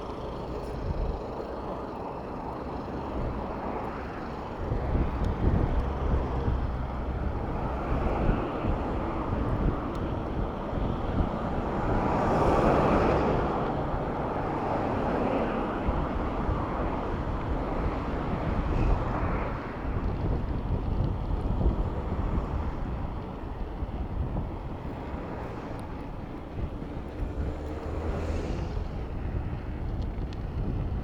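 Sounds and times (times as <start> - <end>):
road traffic: 0.0 - 31.0
wind on microphone: 3.0 - 31.0.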